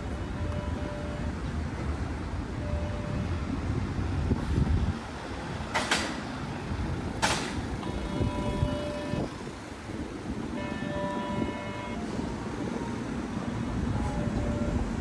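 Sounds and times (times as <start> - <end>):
large vehicle rumbling: 0.0 - 15.0.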